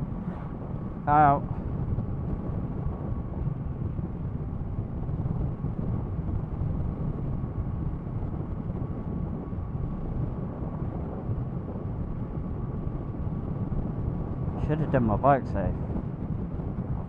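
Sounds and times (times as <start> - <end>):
faint constant whine: 0.0 - 17.0
wind rush on microphone: 0.0 - 17.0.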